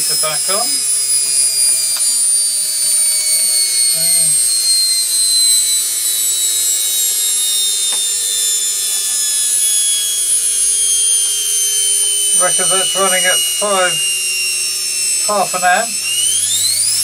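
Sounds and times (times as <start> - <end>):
washing machine motor whine: 0.0 - 17.0.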